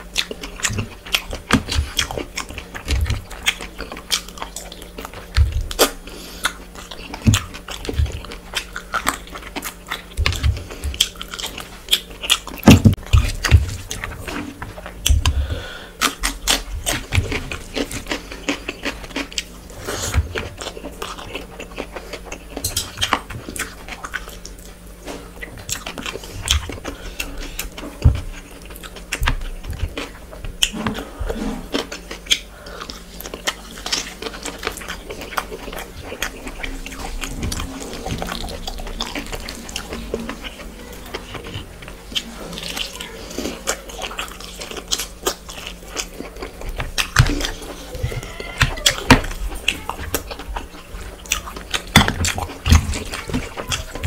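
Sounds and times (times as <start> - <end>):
chewing and mouth clicks: 0.0 - 15.4, 16.0 - 54.0.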